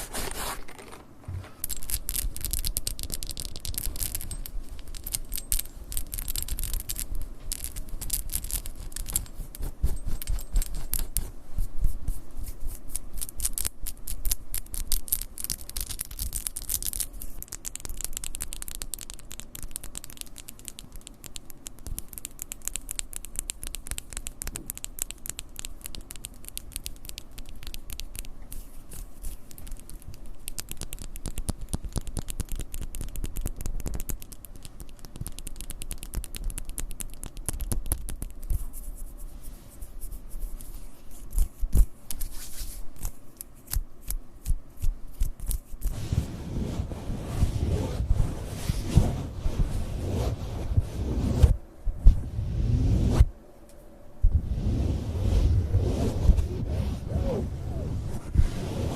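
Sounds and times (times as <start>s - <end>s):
close scratching and crackling: 0.0s - 53.3s, 54.3s - 58.9s.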